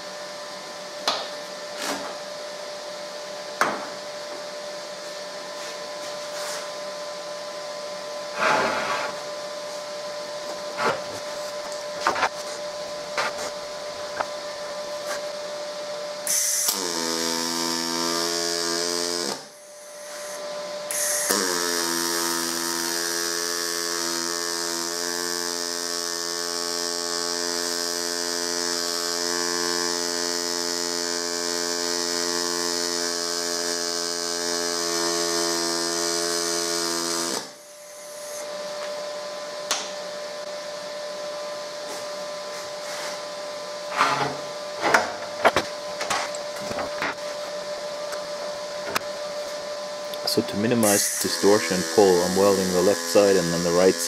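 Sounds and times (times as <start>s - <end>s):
welding arc buzzing: 0.0s - 54.0s.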